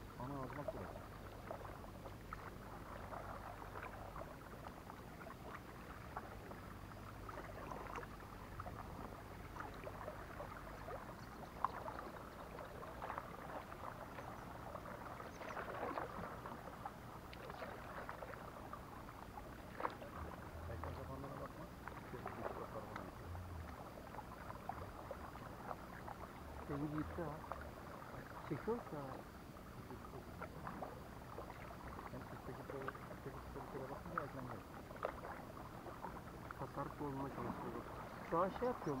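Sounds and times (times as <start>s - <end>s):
paddle strokes splashing in water: 0.0s - 39.0s.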